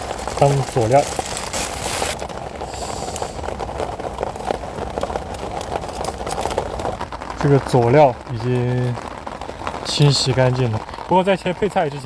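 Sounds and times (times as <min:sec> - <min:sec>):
heavy rain on shelter: 0:00.0 - 0:12.0
water pouring and splashing: 0:00.0 - 0:12.0.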